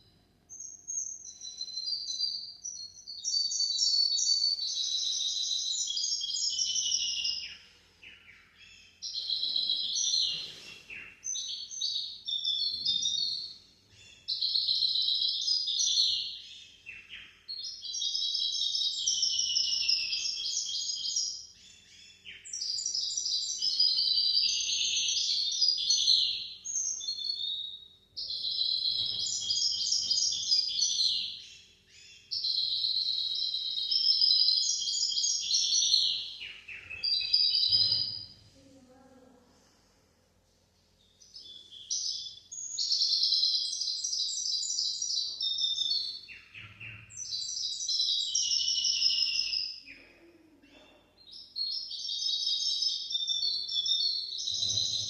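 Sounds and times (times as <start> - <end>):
finch singing high trills: 0.5 - 38.4, 41.3 - 55.0.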